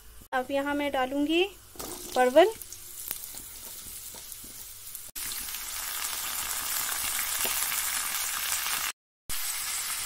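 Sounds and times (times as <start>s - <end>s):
vegetables sizzling in hot oil: 1.0s - 10.0s.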